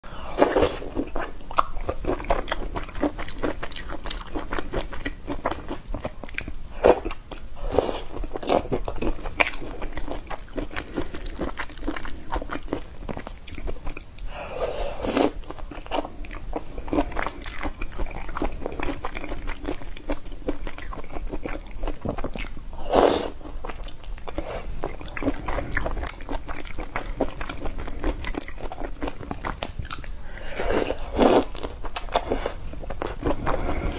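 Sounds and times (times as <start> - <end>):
chewing crunchy shrimp shells: 0.4 - 14.3, 15.1 - 30.2.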